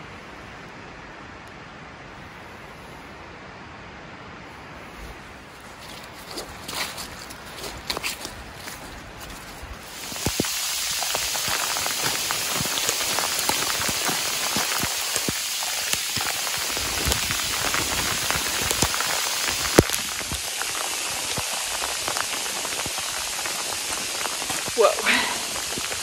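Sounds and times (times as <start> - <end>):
heavy rain falling: 3.8 - 26.0.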